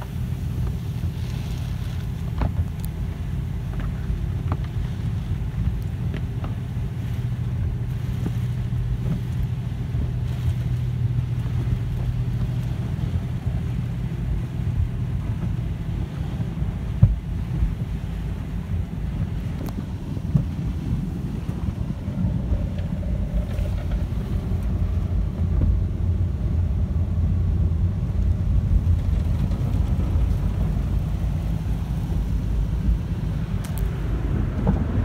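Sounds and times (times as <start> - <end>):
car wash brushes rumbling: 0.0 - 35.0
low hum: 0.0 - 35.0.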